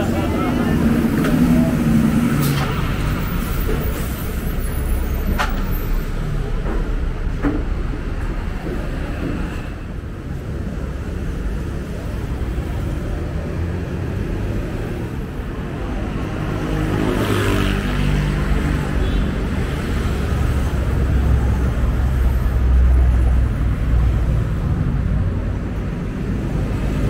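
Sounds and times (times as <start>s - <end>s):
bus passing: 0.0s - 27.0s
low traffic rumble: 0.0s - 27.0s.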